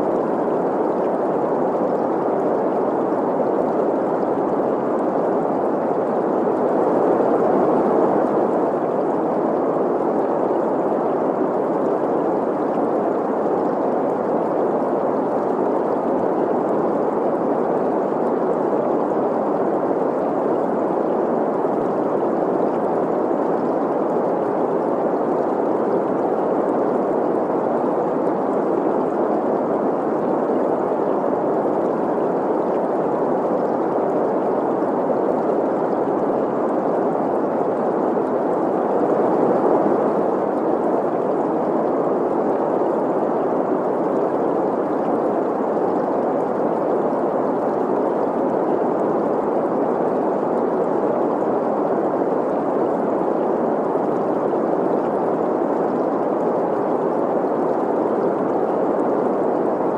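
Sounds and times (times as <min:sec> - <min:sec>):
steady hiss noise: 0:00.0 - 0:59.9
stream gurgling: 0:00.0 - 0:59.9.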